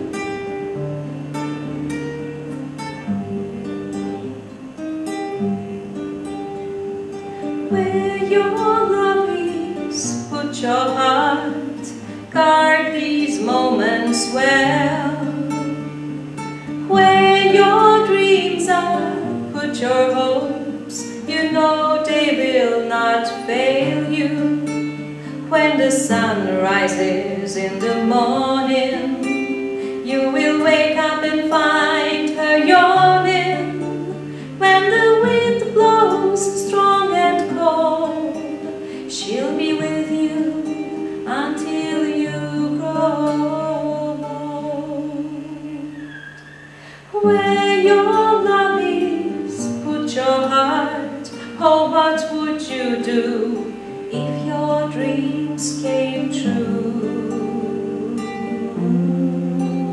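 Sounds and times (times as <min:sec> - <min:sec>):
classical guitar: 0:00.0 - 0:59.9
woman singing slow song: 0:00.0 - 0:59.9.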